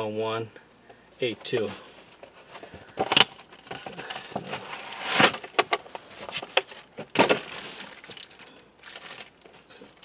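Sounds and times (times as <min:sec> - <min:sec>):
air filter packaging rustling: 0:01.2 - 0:10.0.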